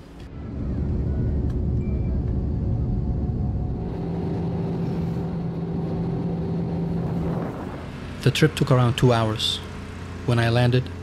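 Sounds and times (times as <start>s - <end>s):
airliner cabin rumble: 0.0s - 9.4s
steady hum: 0.0s - 11.0s.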